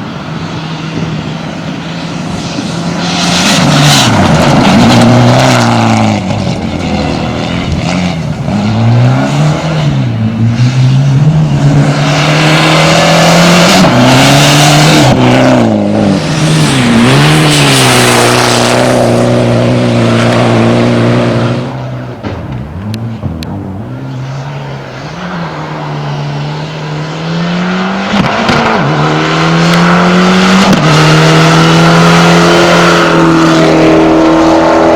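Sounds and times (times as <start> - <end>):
rally car engine accelerating: 0.0 - 34.9.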